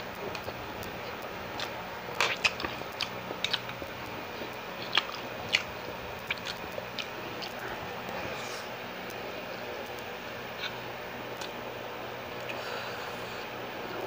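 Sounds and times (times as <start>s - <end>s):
close-up chewing: 0.1s - 14.0s.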